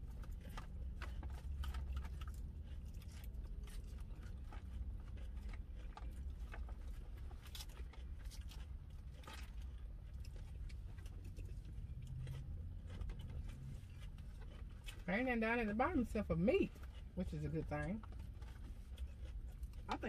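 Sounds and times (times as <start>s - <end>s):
chewing and crunching salad: 0.0s - 20.0s
steady low rumble: 0.0s - 20.0s.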